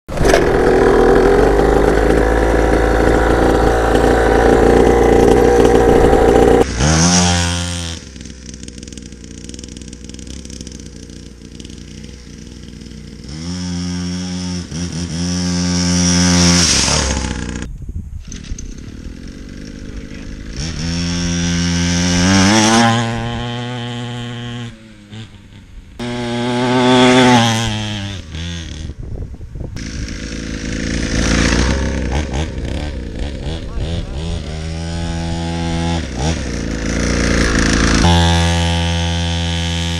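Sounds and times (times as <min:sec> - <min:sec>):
dirt bike engine revving: 0:00.1 - 0:39.9.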